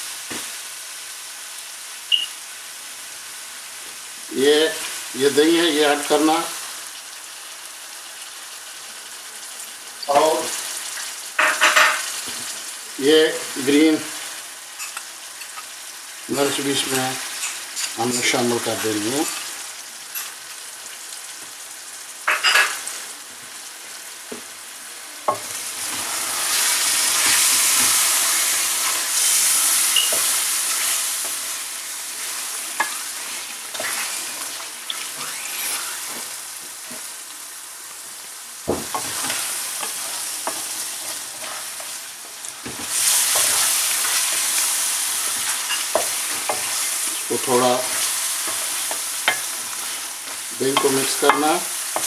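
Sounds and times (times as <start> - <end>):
food sizzling in hot oil: 0.0 - 52.0.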